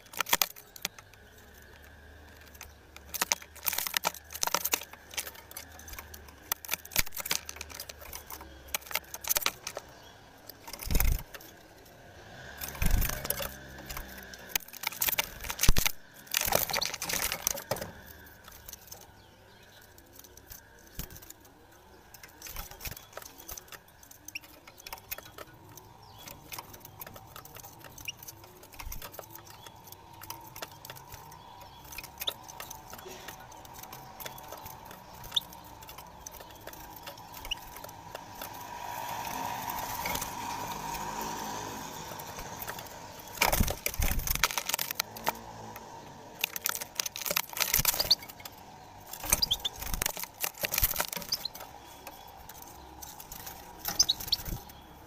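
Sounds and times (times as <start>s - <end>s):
bird feet and beak tapping: 0.0s - 55.0s
wings flapping against cage bars: 0.0s - 55.0s.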